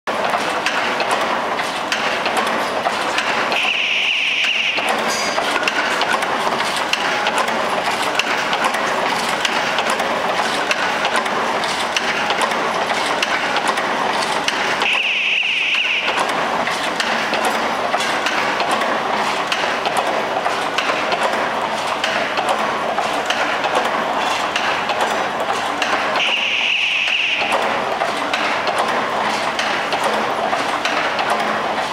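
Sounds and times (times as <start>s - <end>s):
machine clatter: 0.1s - 31.9s.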